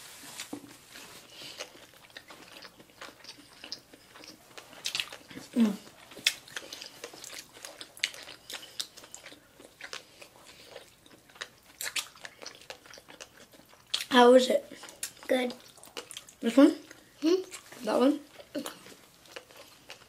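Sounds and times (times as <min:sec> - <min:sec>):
wet chewing and crunches: 0:01.1 - 0:20.0.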